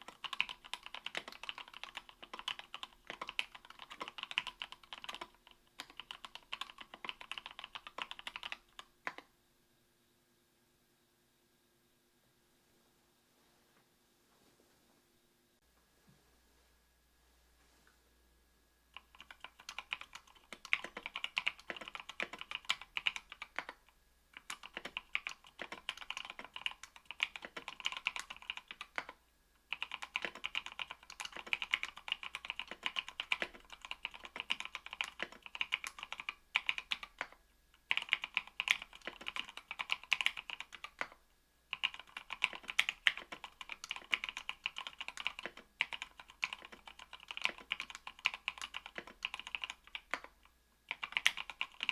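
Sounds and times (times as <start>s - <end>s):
mechanical keyboard typing: 0.0s - 9.3s, 19.0s - 51.9s.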